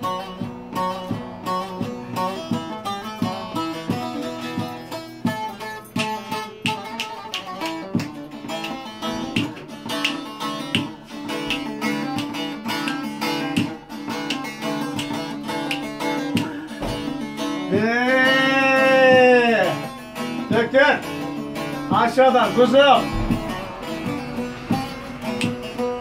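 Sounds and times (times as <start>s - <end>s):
long-necked lute plucked: 0.0s - 26.0s.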